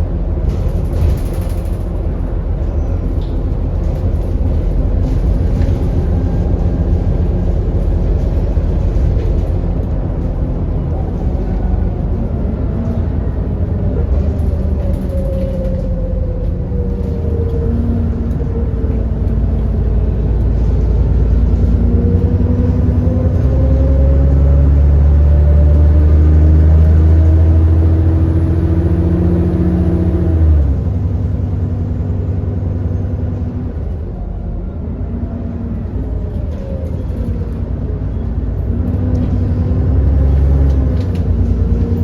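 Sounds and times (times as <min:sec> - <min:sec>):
bus engine pulling: 0:00.0 - 0:42.0.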